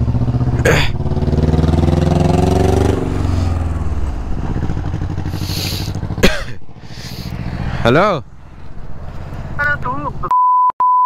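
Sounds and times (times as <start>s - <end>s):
motorcycle engine revving: 0.0s - 9.7s.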